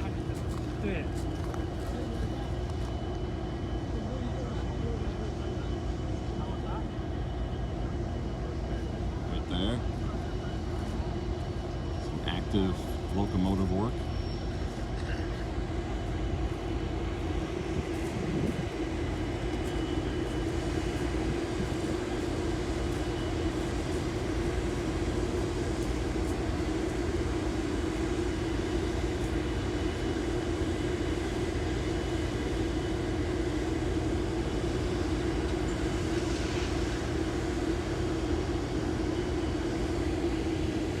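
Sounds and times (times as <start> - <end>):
diesel locomotive engine running: 0.0 - 41.0.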